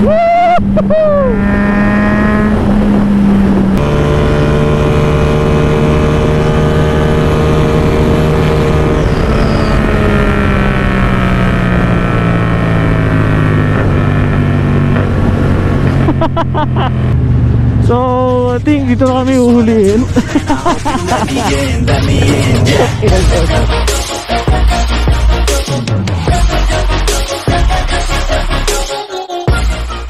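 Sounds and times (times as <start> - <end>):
motorcycle engine running: 0.6 - 26.6.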